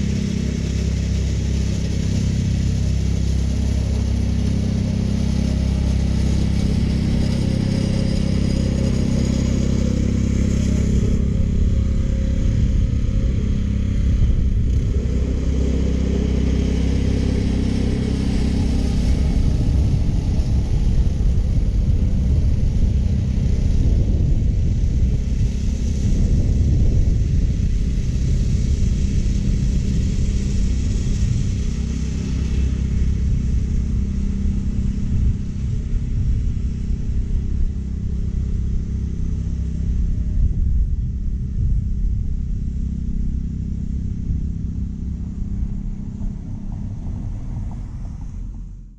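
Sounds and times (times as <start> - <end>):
reel mower running over grass: 0.0 - 48.1.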